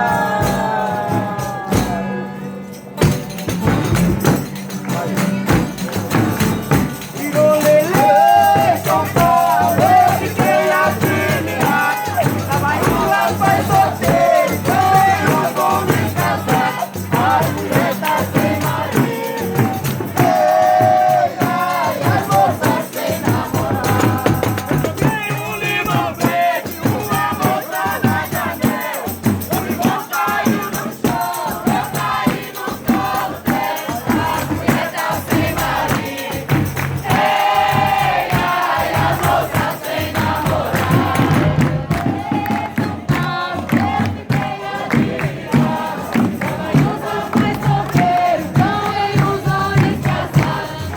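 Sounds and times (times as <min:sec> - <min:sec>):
group singing in chorus: 0:00.0 - 0:50.9
tambourine and percussion beat: 0:00.0 - 0:50.9.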